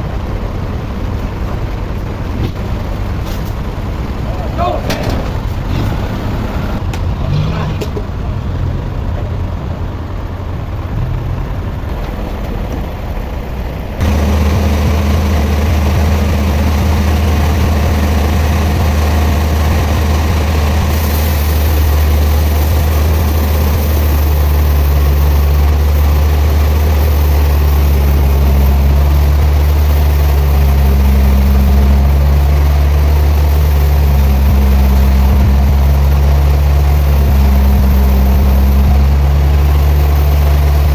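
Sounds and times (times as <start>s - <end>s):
heavy machinery engine droning: 0.0s - 40.9s.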